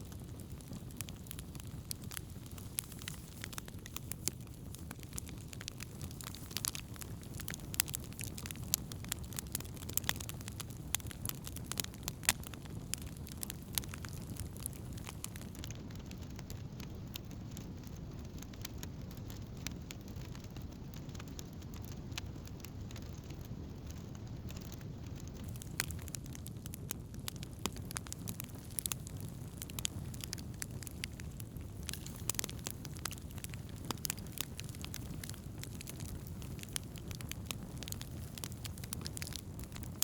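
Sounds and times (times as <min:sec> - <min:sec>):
campfire flames rumbling: 0:00.0 - 0:40.0
fire crackling and popping: 0:00.0 - 0:40.0.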